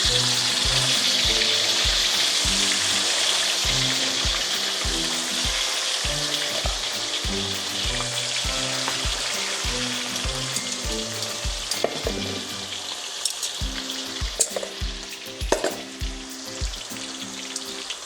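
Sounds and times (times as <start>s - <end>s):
background music with low beat: 0.0s - 12.8s, 13.6s - 17.3s
chicken frying in hot oil: 0.0s - 18.0s.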